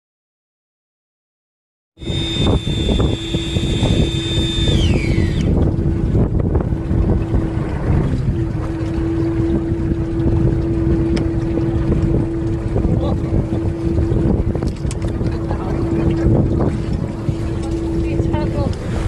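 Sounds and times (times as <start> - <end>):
boat engine rumbling: 2.0 - 19.0
wind buffeting microphone: 2.0 - 19.0.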